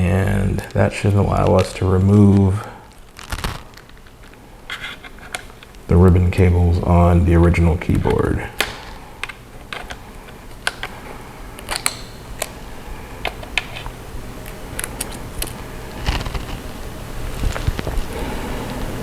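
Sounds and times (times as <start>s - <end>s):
rustling and handling noise: 0.2s - 6.5s, 7.9s - 19.0s.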